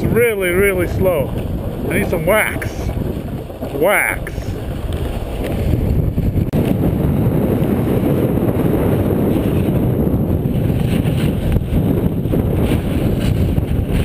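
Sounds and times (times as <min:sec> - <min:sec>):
snowboard sliding over snow: 0:00.0 - 0:14.0
wind buffeting microphone: 0:00.0 - 0:14.0.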